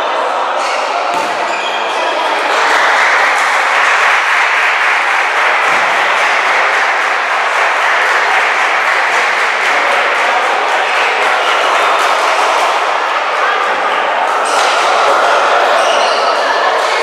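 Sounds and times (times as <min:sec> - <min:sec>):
crowd clapping and cheering: 0:01.1 - 0:17.0.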